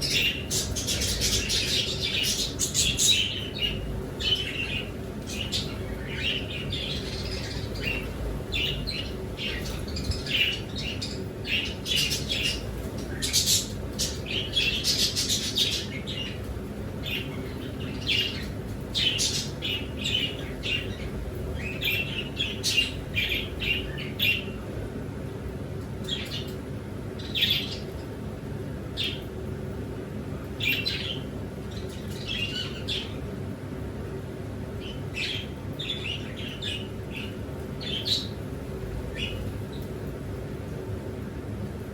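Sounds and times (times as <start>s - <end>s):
birds chirping and calling: 0.0s - 24.6s, 26.0s - 26.6s, 27.2s - 28.1s, 30.6s - 33.3s, 34.8s - 40.0s
low steady hum: 0.0s - 41.9s.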